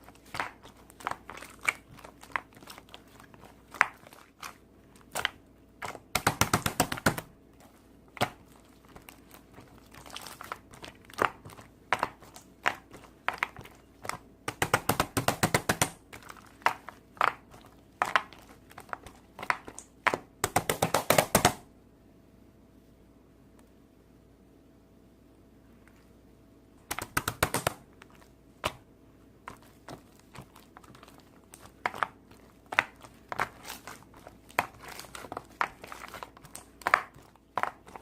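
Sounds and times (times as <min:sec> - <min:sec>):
crunchy slime crackling: 0:00.0 - 0:21.6, 0:26.8 - 0:38.0.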